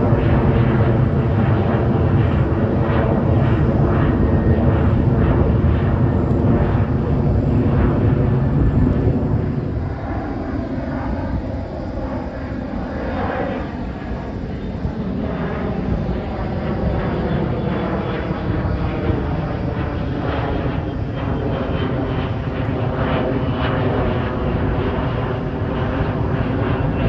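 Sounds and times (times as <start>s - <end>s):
jet airliner engines rumbling: 0.0s - 27.0s.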